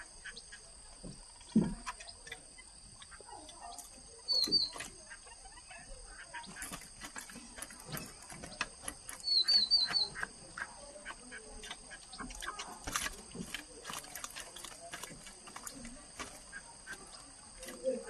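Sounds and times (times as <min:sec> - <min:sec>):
songbird chirping: 0:00.0 - 0:18.0.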